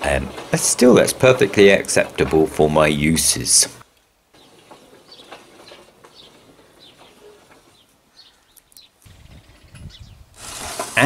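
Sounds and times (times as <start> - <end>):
steel wheels rolling on rails: 0.0 - 8.2, 10.3 - 11.0
birds chirping: 0.0 - 10.4.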